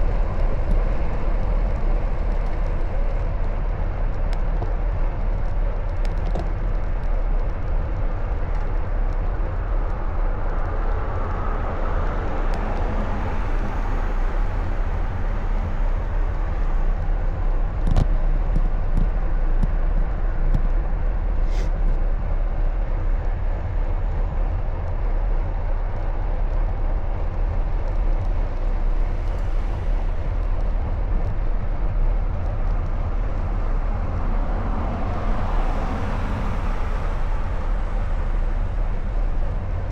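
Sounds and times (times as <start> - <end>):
passing traffic: 0.0 - 39.9
wind and road noise: 0.0 - 39.9.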